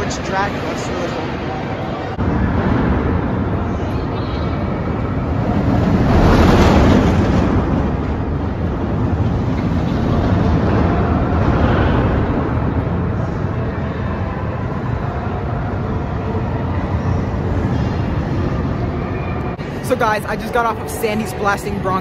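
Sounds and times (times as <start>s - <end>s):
roller coaster train rushing on track: 0.0s - 22.0s.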